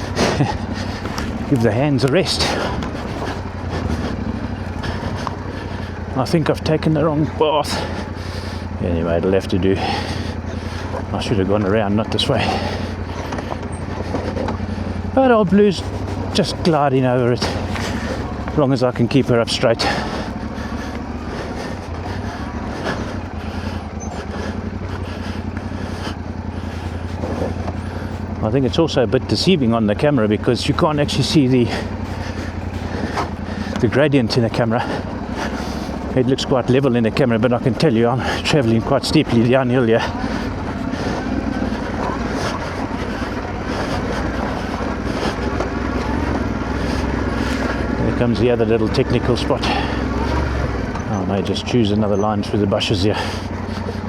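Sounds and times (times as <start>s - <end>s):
motorcycle engine running: 0.0s - 54.0s
motorcycle knocking on rough ground: 0.1s - 54.0s.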